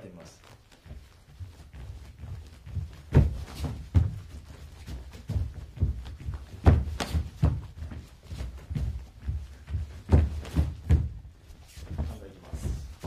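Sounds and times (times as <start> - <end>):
feet thudding on a mat: 0.5 - 13.0.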